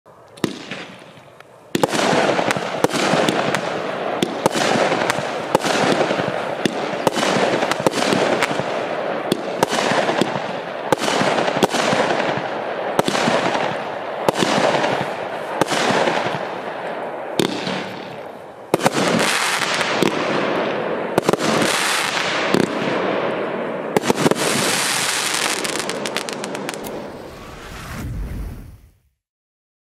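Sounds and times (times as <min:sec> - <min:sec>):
fireworks shots and aerial bursts: 0:00.1 - 0:29.2
fireworks crackling hiss: 0:00.4 - 0:22.7, 0:24.0 - 0:29.0.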